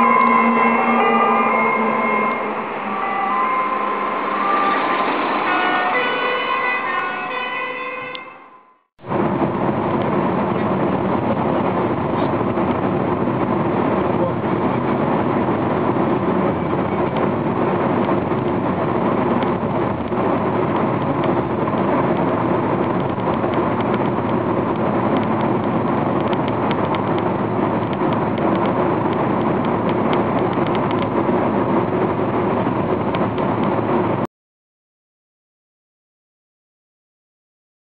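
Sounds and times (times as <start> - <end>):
car road and engine noise: 0.0 - 8.3, 9.0 - 34.3.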